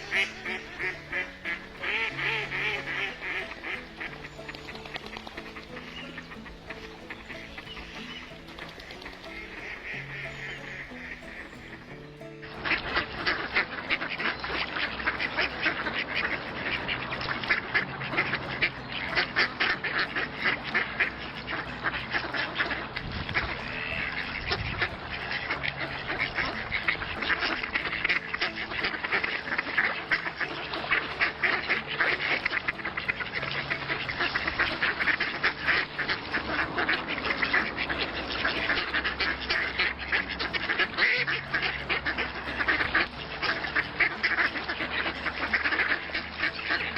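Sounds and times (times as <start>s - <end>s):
ducks quacking: 0.0s - 46.9s.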